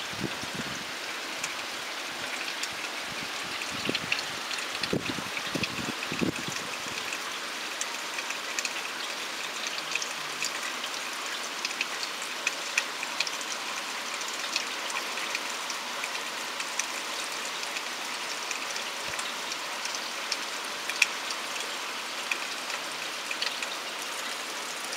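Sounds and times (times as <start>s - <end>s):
steady rain hiss: 0.0s - 24.9s
raindrops ticking: 1.0s - 24.9s.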